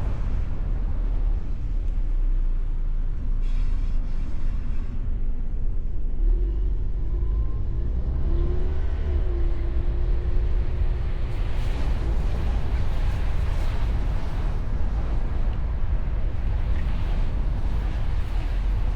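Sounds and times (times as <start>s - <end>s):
car engine and road rumble: 0.0s - 18.9s.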